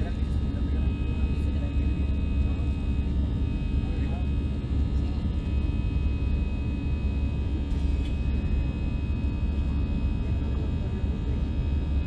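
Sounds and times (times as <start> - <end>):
jet engine rumble in cabin: 0.0 - 12.0
steady ringing tones: 0.0 - 12.0.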